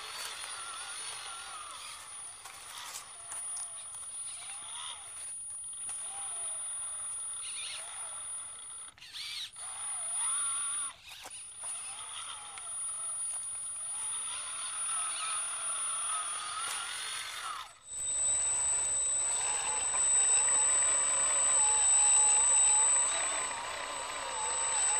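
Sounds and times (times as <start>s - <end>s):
electric motor and gearbox whining: 0.0s - 24.9s.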